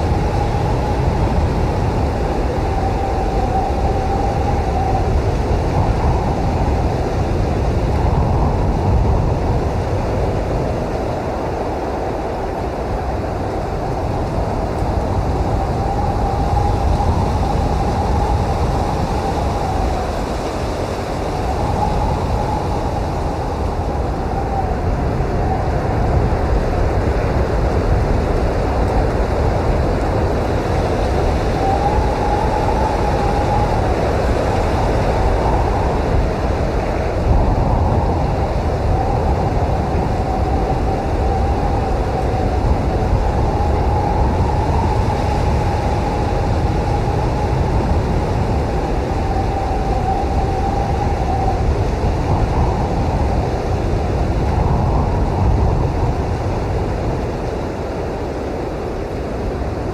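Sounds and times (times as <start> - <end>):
blizzard wind rushing: 0.0 - 59.9
thin wind whistling: 0.0 - 59.9.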